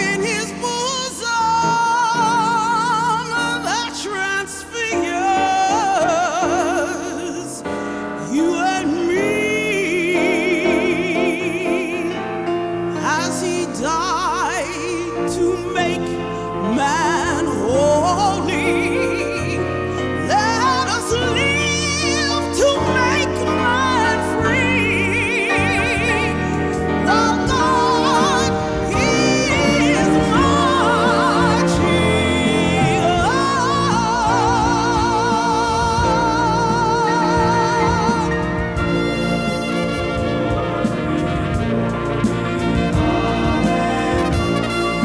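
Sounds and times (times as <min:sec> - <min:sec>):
operatic singing: 0:00.0 - 0:45.0
sustained accompaniment: 0:00.0 - 0:45.0.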